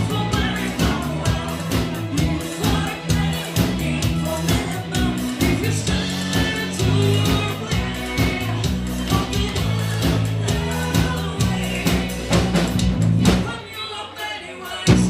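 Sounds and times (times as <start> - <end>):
drum beat: 0.0 - 13.5
bass line: 0.0 - 13.6
person singing: 0.0 - 15.0.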